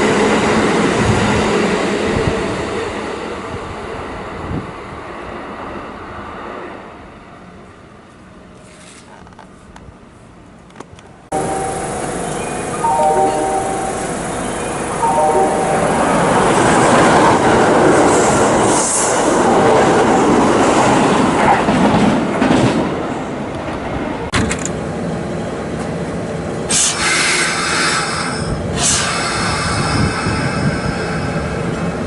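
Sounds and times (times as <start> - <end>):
electric train running on rails: 0.0 - 8.6, 10.5 - 32.0.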